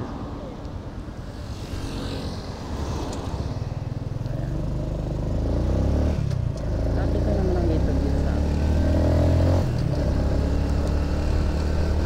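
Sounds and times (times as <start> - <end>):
motorcycle engine accelerating: 1.6 - 12.0.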